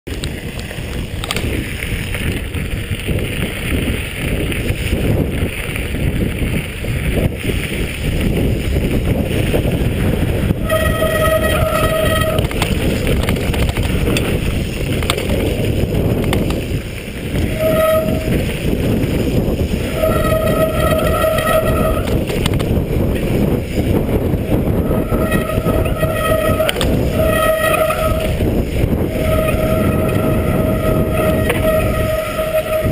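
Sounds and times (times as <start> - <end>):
bike tyres rumbling over rocks: 0.1 - 32.9
bike whine: 0.1 - 32.9
wind buffeting microphone: 0.1 - 32.9.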